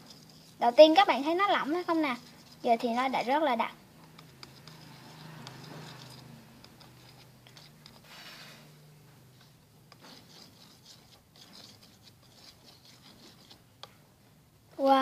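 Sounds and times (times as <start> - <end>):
slime being worked: 0.0 - 14.0.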